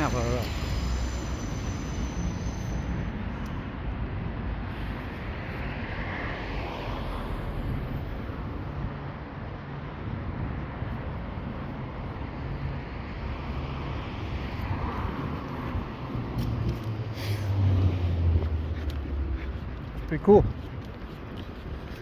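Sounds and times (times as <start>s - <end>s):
distant road traffic: 0.0s - 22.0s.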